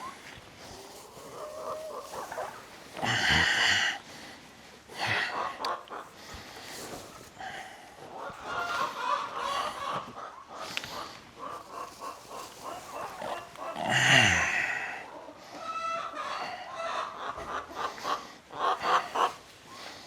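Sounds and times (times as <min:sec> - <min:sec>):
hens clucking: 0:00.0 - 0:20.0.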